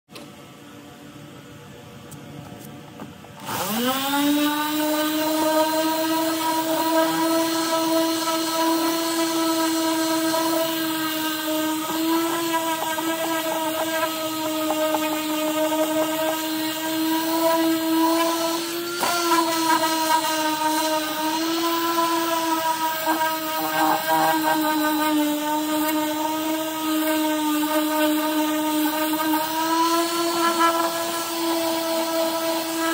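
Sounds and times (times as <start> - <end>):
orbital sander whine: 3.4 - 32.9.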